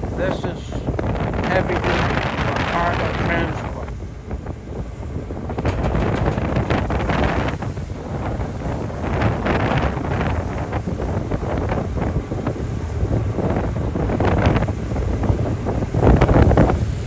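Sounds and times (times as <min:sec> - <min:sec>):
low steady rumble: 0:00.0 - 0:17.0
wind buffeting microphone: 0:00.0 - 0:17.0.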